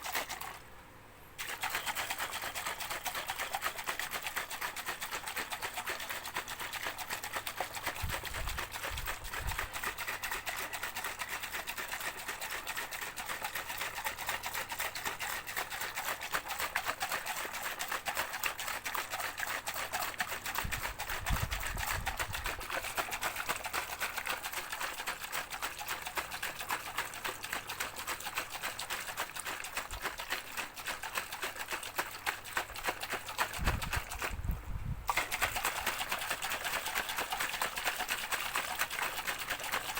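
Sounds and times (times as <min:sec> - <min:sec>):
shaker rattling: 0:00.0 - 0:00.6, 0:01.4 - 0:39.9.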